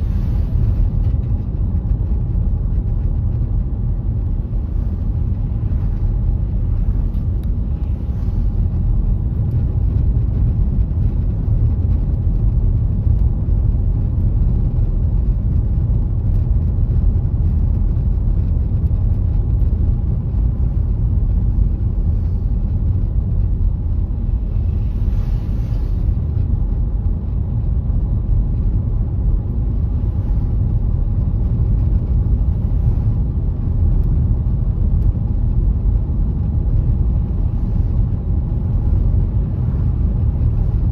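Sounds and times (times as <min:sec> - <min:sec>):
car tyres and engine on snow: 0:00.0 - 0:40.9.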